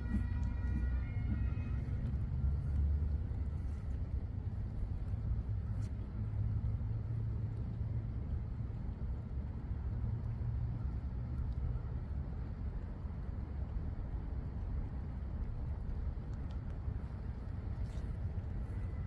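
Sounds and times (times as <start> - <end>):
low steady rumbling: 0.0 - 19.0.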